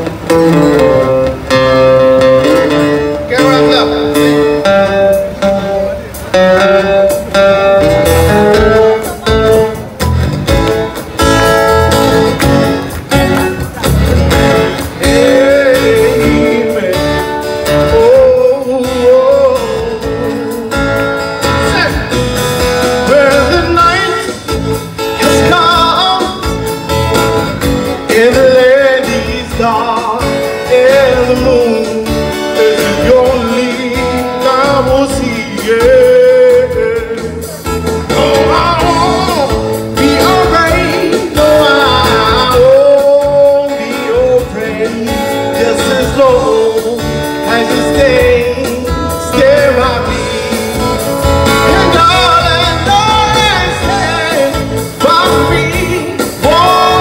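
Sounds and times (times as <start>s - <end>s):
man singing into a microphone: 0.0s - 9.7s, 14.6s - 22.2s, 22.8s - 26.8s, 27.9s - 57.0s
acoustic guitar strumming: 0.0s - 57.0s.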